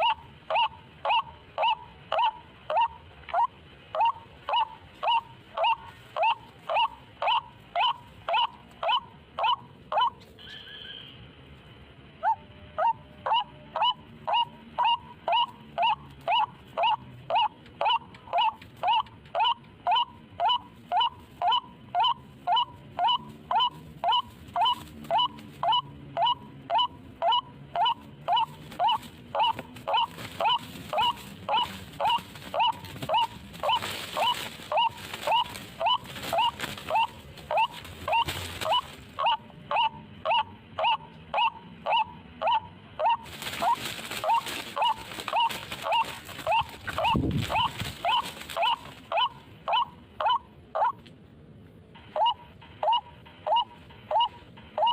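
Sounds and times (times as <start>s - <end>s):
waterhen call: 0.0s - 11.2s, 12.2s - 51.0s.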